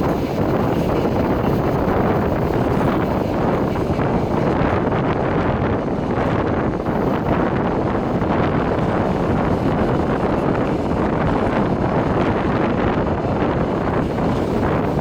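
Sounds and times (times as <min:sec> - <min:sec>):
passenger train running: 0:00.0 - 0:15.0
wind on microphone: 0:00.0 - 0:15.0.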